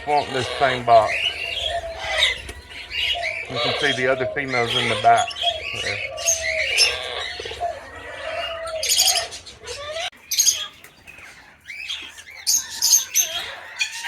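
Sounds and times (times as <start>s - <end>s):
birds chirping and squawking: 0.0s - 14.0s
shrill bird calls: 0.0s - 14.0s.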